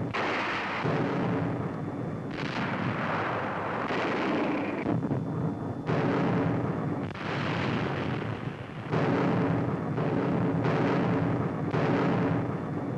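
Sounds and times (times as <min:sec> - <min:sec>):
heavy gun blasts: 0:00.0 - 0:01.7, 0:02.3 - 0:05.2, 0:05.8 - 0:12.7.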